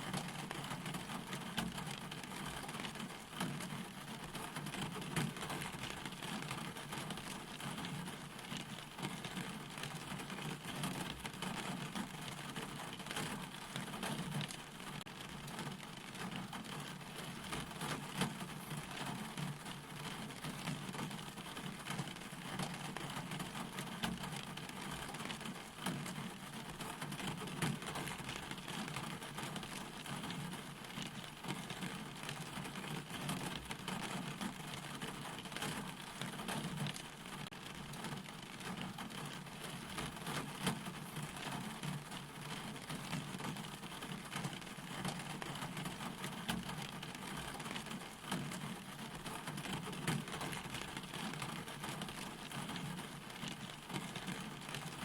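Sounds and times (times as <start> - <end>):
rain drops striking: 0.0 - 55.0.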